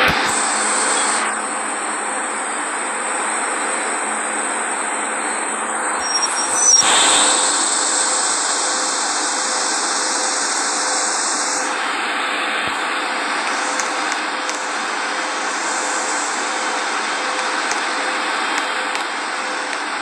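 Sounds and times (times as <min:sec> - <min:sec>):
faint steady whine: 0:00.0 - 0:20.0
subway train rushing: 0:00.0 - 0:20.0.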